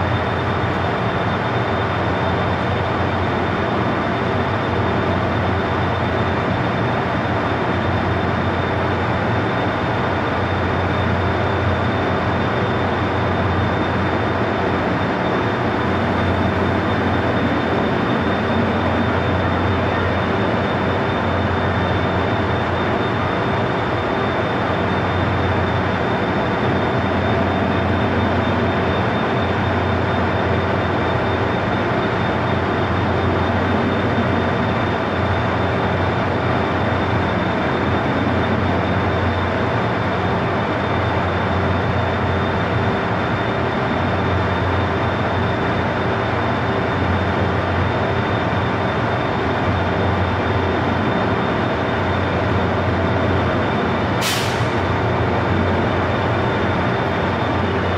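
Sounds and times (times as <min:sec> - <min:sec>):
thin constant whine: 0:00.0 - 0:57.9
train equipment hum: 0:00.0 - 0:57.9.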